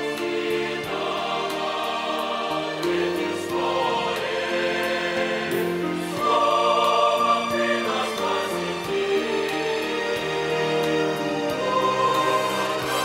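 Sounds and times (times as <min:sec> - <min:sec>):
mixed choir singing a hymn: 0:00.0 - 0:13.0.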